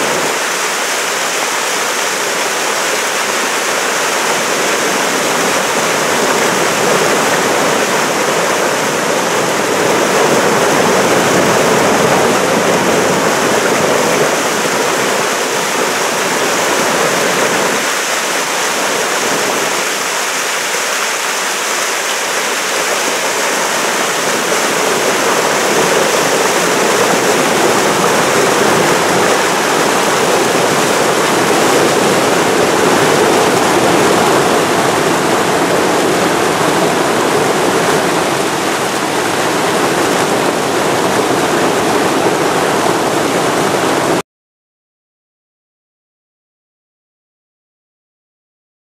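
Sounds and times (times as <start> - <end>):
whitewater rushing over dam: 0.0 - 44.2.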